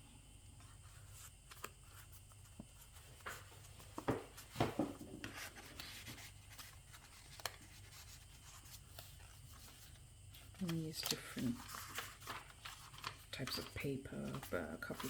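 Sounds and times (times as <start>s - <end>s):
paper pages rustling: 0.6s - 15.0s.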